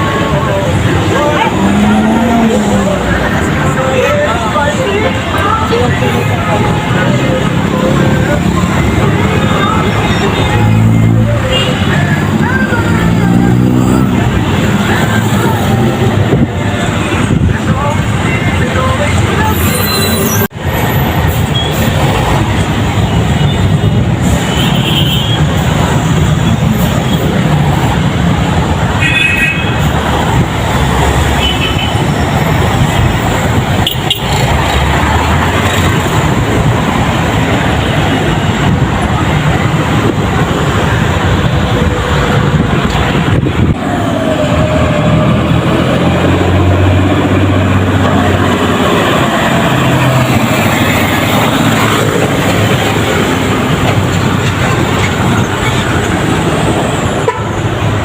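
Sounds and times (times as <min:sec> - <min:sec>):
heavy vehicles passing: 0:00.0 - 0:58.0.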